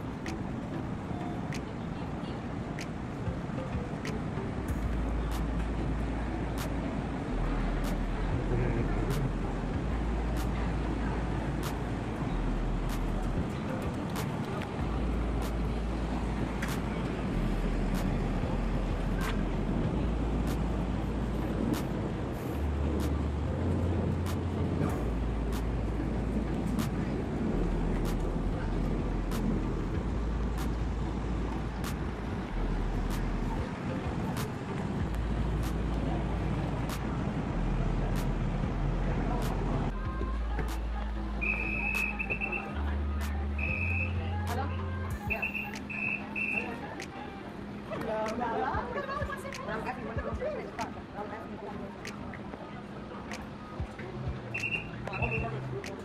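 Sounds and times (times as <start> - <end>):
low rumble of traffic: 0.0 - 56.0.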